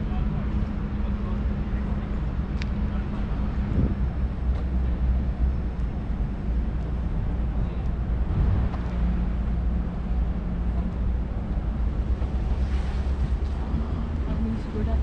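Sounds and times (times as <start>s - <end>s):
ship machinery humming: 0.0s - 15.0s.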